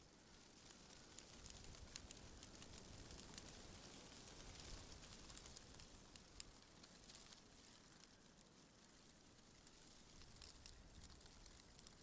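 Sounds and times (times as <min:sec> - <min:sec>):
faint forest ambience: 0:00.0 - 0:12.0
light crackling ticks: 0:00.0 - 0:12.0.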